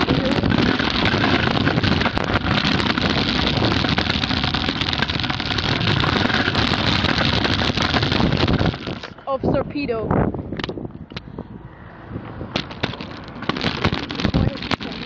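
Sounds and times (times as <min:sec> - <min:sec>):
scooter rolling over pavement: 0:00.0 - 0:09.8, 0:12.2 - 0:15.0
wind buffeting microphone: 0:00.0 - 0:15.0.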